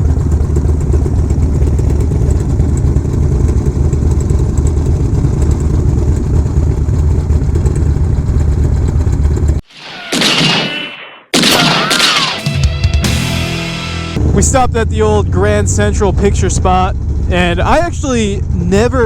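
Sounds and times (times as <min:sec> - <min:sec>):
motorcycle engine running: 0:00.0 - 0:09.6, 0:13.0 - 0:19.0.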